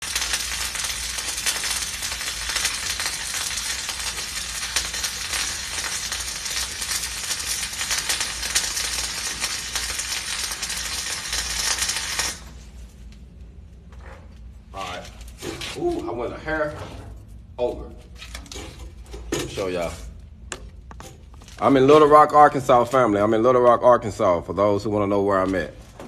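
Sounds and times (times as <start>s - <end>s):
arc welding crackle: 0.0s - 13.4s, 18.0s - 25.8s.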